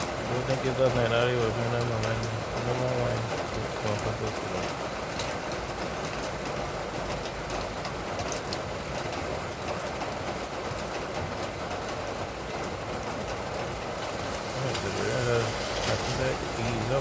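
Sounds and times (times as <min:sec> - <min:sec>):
raindrops clicking: 0:00.0 - 0:17.0
steady rain hiss: 0:00.0 - 0:17.0.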